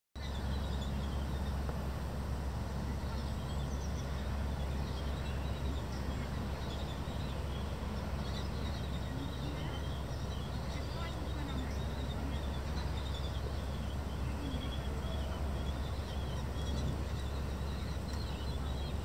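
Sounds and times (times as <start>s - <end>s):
steady low rumble: 0.2s - 19.0s
bird chicks chirping: 2.9s - 19.0s.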